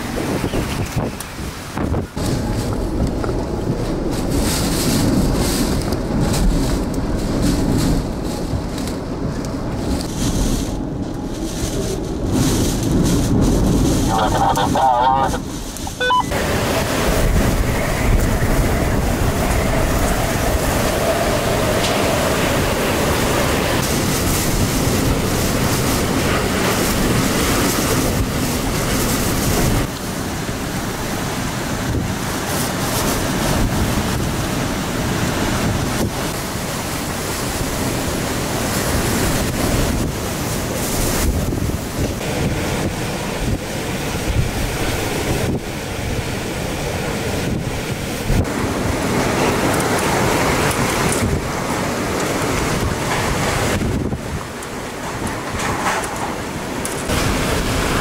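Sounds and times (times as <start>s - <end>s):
driving rain: 0.0s - 58.0s
strong wind rushing: 0.0s - 58.0s
wind buffeting microphone: 0.0s - 58.0s.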